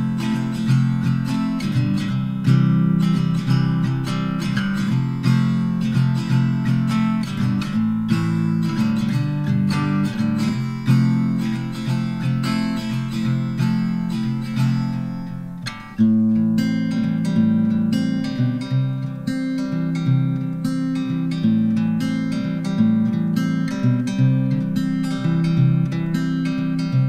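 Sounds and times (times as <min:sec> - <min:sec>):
acoustic guitar picked and strummed: 0:00.0 - 0:27.0.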